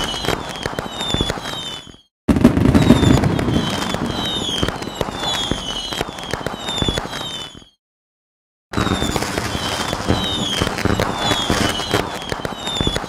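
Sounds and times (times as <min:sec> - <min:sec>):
fireworks crackling pops: 0:00.0 - 0:07.8, 0:08.8 - 0:13.0
high falling whistle: 0:00.0 - 0:07.8, 0:08.8 - 0:13.0.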